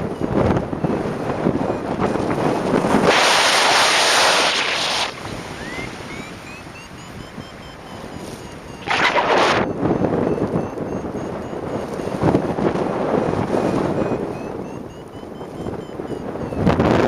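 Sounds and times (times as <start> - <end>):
variometer beeping with rising pitch: 0.0 - 17.0
wind buffeting microphone: 0.0 - 17.0.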